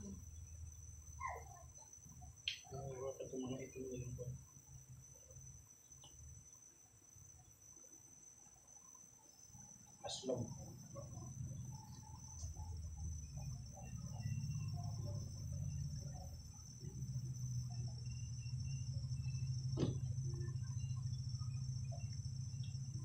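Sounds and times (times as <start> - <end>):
insects trilling: 0.0 - 23.0
low steady hum: 0.0 - 23.0.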